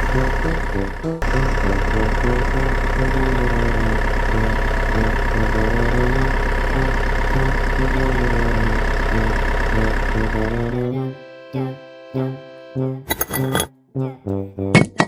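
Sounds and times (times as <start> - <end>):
steady engine-like hum: 0.0 - 12.3
simple melody of short notes: 0.0 - 15.0.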